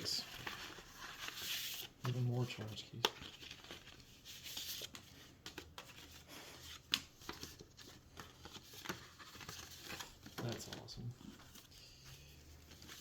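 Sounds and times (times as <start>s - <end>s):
paper and packaging rustling: 0.0s - 13.0s.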